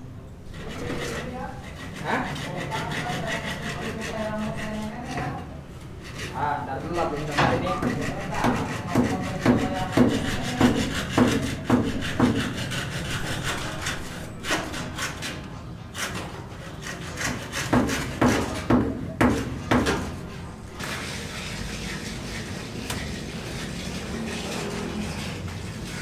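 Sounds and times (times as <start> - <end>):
hand saw cutting wood: 0.5 - 26.0.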